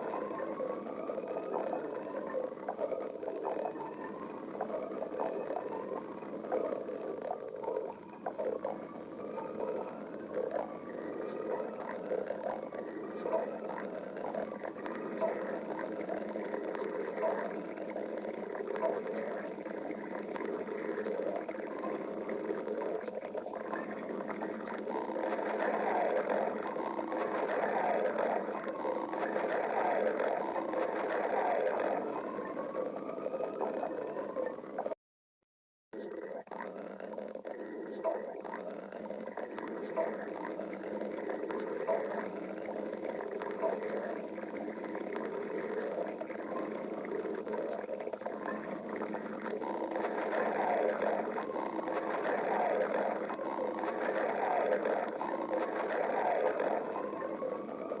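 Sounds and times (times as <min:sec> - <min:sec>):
stomach growling: 0:00.0 - 0:35.0, 0:36.0 - 0:58.0
stomach gurgles and pops: 0:00.0 - 0:35.0, 0:36.0 - 0:58.0.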